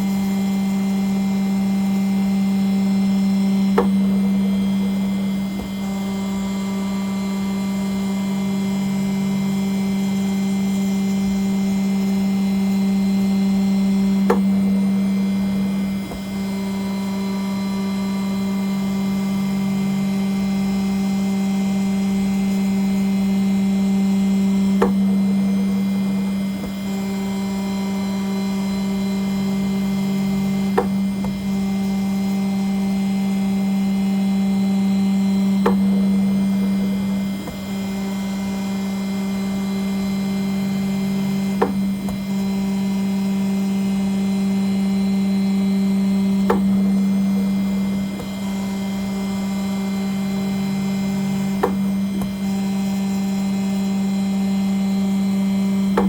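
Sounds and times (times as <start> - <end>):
engraving spindle humming: 0.0 - 56.0.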